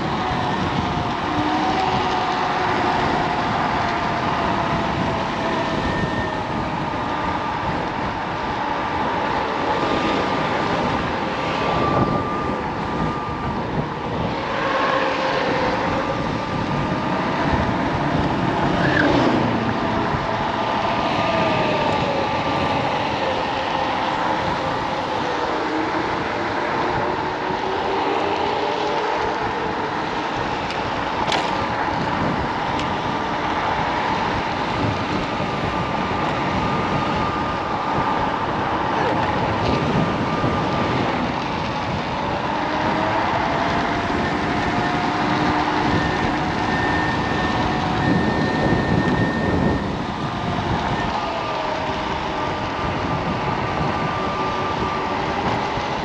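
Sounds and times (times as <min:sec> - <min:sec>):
electric motor whine: 0:00.0 - 0:56.0
rushing wind: 0:00.0 - 0:56.0
scooter road noise: 0:00.0 - 0:56.0.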